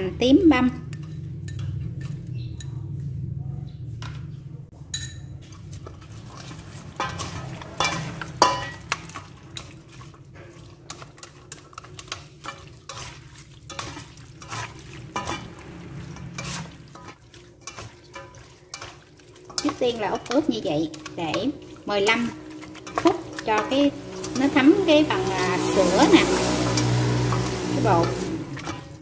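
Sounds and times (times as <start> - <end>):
hand mixing wet marinade: 5.4 - 29.0
chopsticks scraping metal bowl: 5.5 - 29.0.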